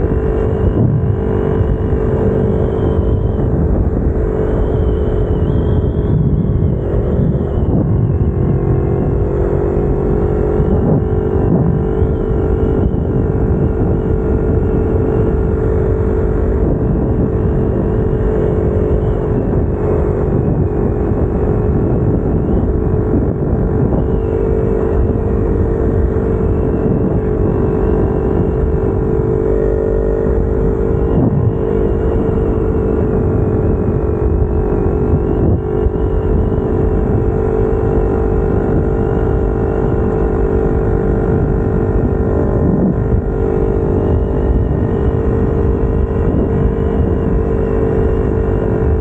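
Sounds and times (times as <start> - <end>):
motorcycle engine at high pitch: 0.0 - 49.0.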